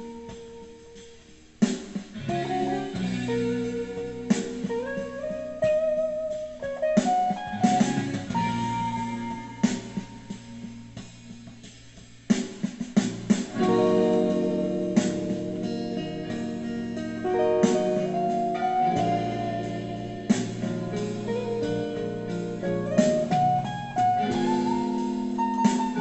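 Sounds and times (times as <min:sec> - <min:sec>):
electric guitar lead: 0:00.0 - 0:01.4, 0:02.1 - 0:11.4, 0:13.3 - 0:26.0
backing track: 0:00.0 - 0:26.0.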